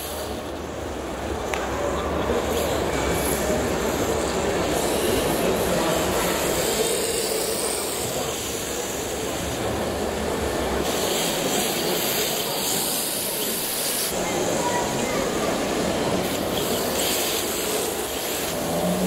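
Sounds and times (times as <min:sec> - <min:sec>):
hubbub of exhibition hall: 0:00.0 - 0:19.0
rc cars running: 0:02.3 - 0:19.0.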